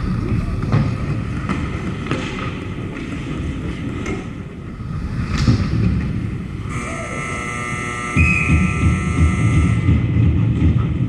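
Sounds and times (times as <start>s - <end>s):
low rumble of rink noise: 0.0s - 11.0s.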